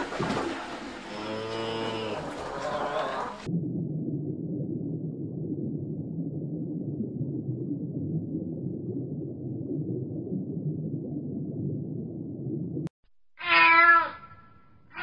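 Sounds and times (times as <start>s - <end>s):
muffled underwater rumble: 0.0s - 12.9s.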